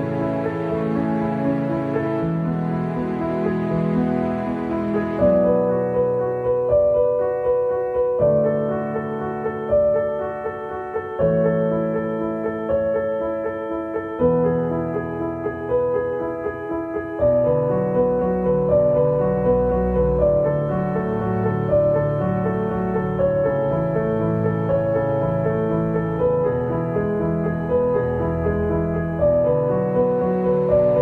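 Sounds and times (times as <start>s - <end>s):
gentle piano piece: 0.0s - 31.0s.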